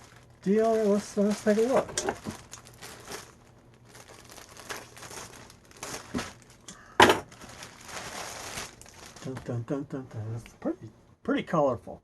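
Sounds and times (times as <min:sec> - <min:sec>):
fabric and packaging crinkling: 0:00.0 - 0:10.4.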